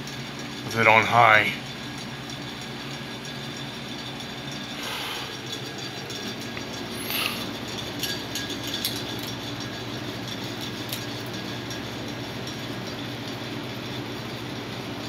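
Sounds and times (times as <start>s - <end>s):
ceiling fan humming and whirring: 0.0s - 15.0s.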